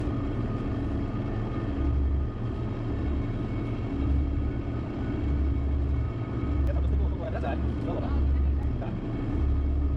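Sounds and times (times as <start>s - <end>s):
boat engine rumble: 0.0s - 9.9s.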